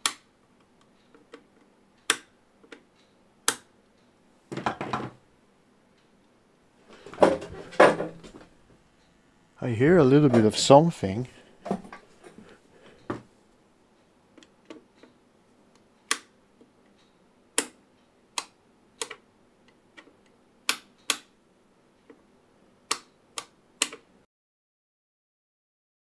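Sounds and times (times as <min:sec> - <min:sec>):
faint steady amplifier buzz: 0:00.0 - 0:24.2.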